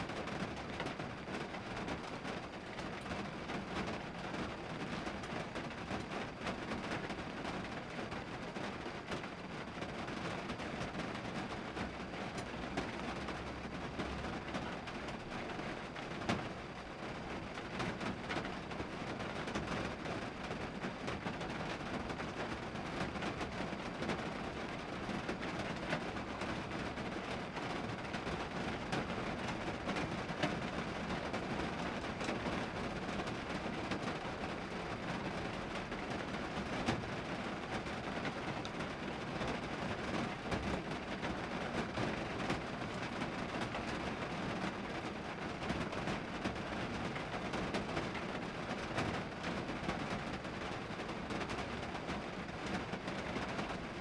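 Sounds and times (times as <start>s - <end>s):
rain on vehicle roof: 0.0s - 54.0s.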